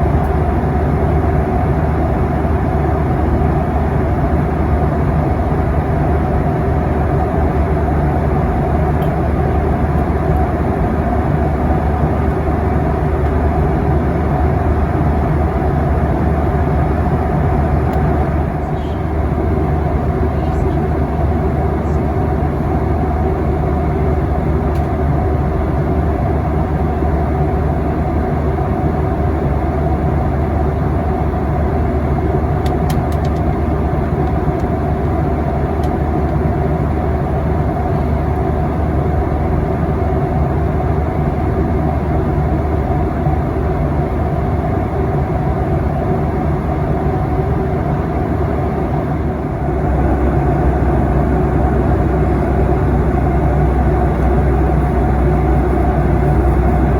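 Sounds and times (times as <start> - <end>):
jet engine cabin drone: 0.0 - 56.9.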